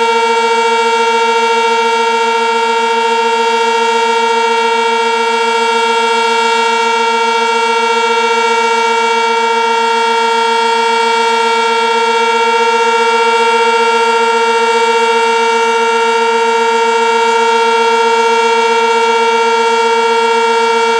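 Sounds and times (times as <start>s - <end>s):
warning siren steady tone: 0.0s - 20.9s.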